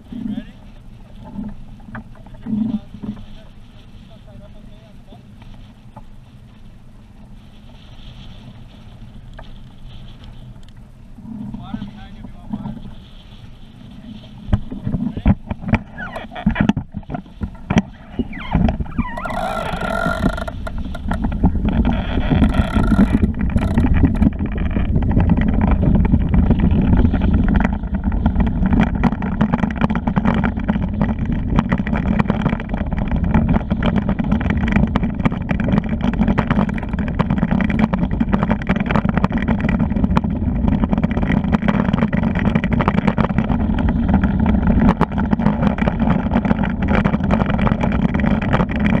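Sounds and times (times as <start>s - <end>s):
small ticks and rattles: 0.0s - 49.0s
vehicle rumble on hard ground: 0.0s - 49.0s.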